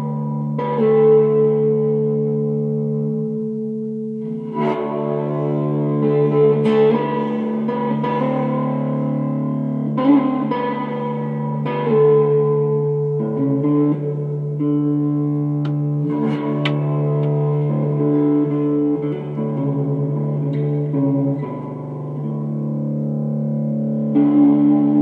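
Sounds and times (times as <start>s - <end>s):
bowed electric guitar notes: 0.0s - 25.0s.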